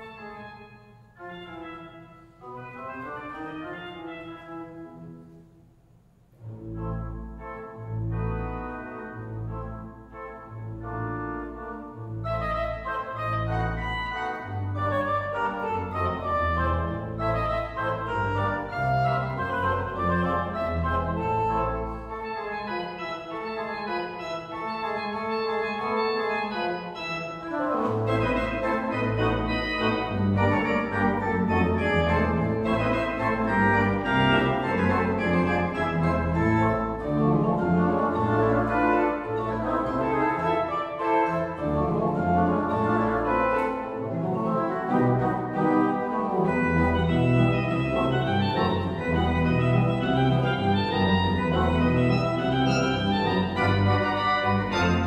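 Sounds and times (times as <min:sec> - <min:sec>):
pipe organ playing fast notes: 0:00.0 - 0:05.3, 0:06.3 - 0:55.0
deep organ bass notes: 0:06.4 - 0:55.0.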